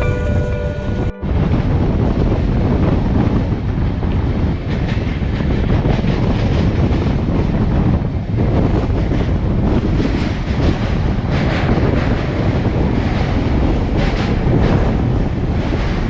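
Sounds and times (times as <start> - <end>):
train wheels rumbling on track: 0.0 - 16.0
wind buffeting microphone: 0.0 - 16.0.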